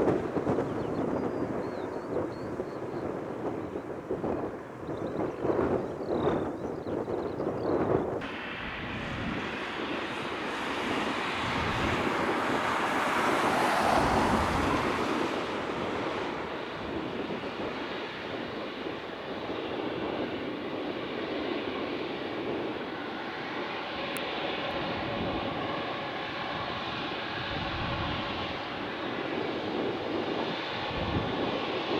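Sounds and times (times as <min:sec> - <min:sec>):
jet engines roaring: 0:00.0 - 0:31.9
wind buffeting microphone: 0:00.0 - 0:31.9.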